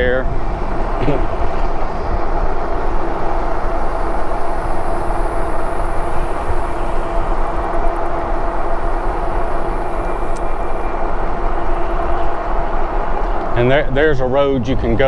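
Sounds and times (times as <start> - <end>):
faint bike hum: 0.0 - 15.0
wind rush over microphone: 0.0 - 15.0.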